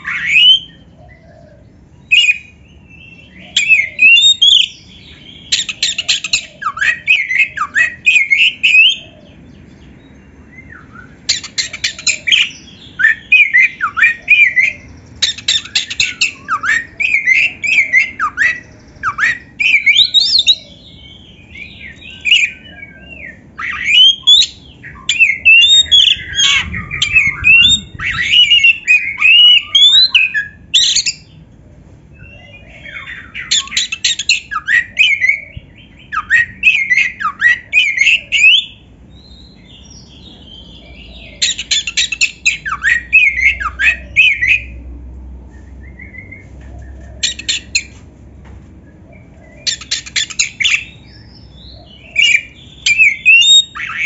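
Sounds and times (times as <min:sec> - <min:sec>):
magpie-robin singing: 0:00.0 - 0:31.4, 0:32.1 - 0:44.8, 0:45.6 - 0:48.0, 0:48.9 - 0:54.0.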